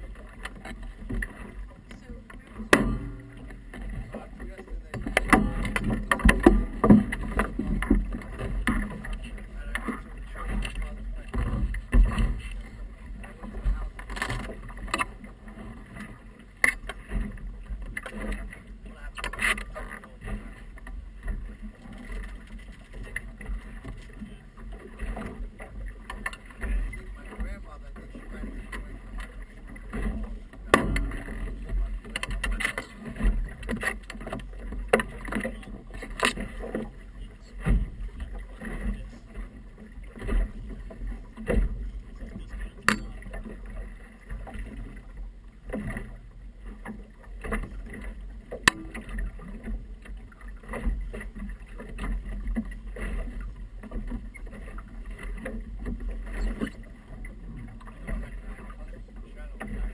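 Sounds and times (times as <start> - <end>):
waves slapping boat hull: 0.0 - 59.9.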